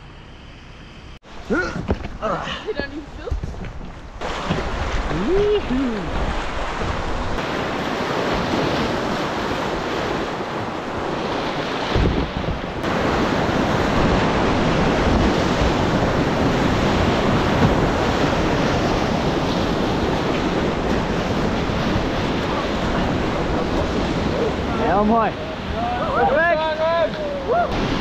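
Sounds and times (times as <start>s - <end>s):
whitewater rapids rushing: 4.2s - 12.1s, 12.8s - 28.0s.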